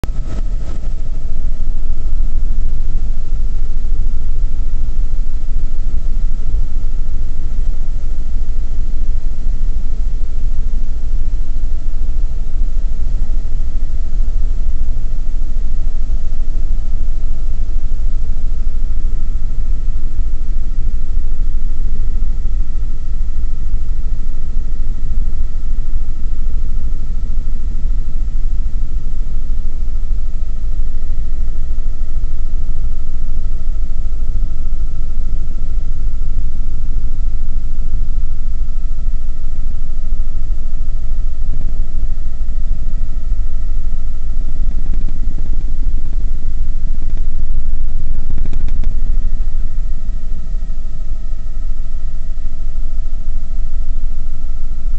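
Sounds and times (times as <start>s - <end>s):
helicopter rotor and engine rumble: 0.0s - 52.3s
steady whine: 0.0s - 54.9s.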